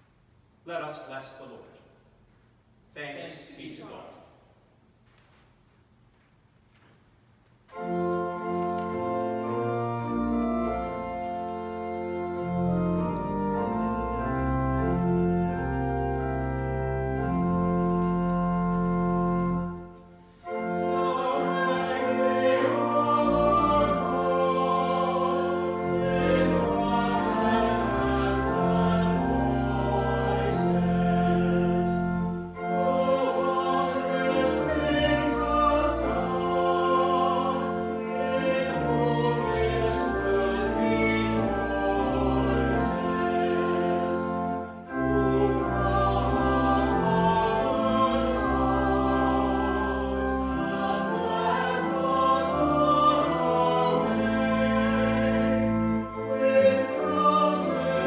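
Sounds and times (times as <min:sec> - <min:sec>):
church organ chords: 0:07.7 - 0:58.0.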